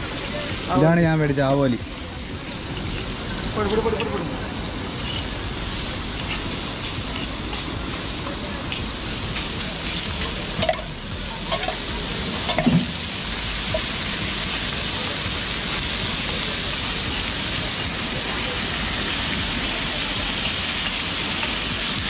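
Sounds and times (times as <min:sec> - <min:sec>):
fish sizzling on griddle: 0:00.0 - 0:22.0.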